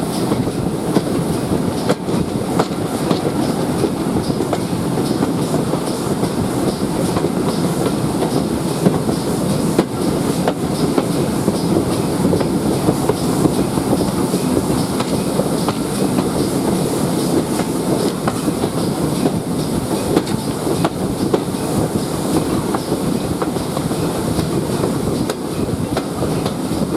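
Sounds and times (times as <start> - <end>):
train rumbling along track: 0.0 - 26.9.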